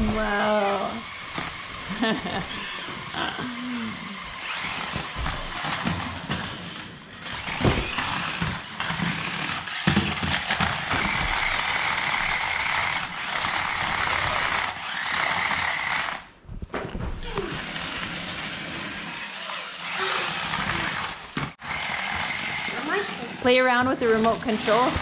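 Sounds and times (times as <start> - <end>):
toy car electric motor whirring: 0.0 - 16.3, 17.3 - 25.0.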